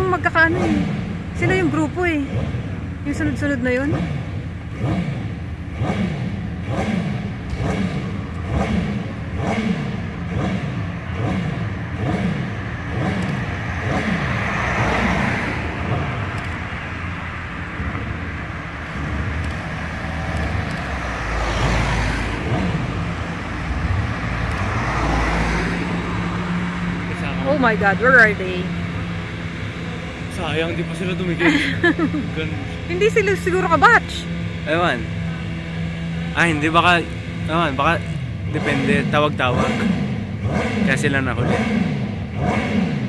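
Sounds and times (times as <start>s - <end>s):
car engines revving: 0.0s - 43.0s
cars driving past: 0.0s - 43.0s.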